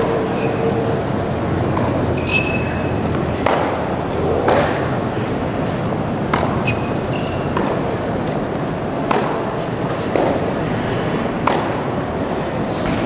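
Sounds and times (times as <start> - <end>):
large hall background noise: 0.0 - 13.0.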